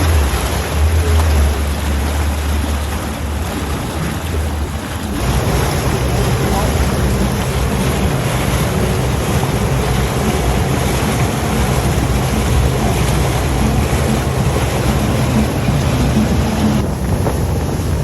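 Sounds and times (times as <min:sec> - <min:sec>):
outboard engine running: 0:00.0 - 0:18.0
water rushing: 0:00.0 - 0:18.0
wind on microphone: 0:00.0 - 0:18.0.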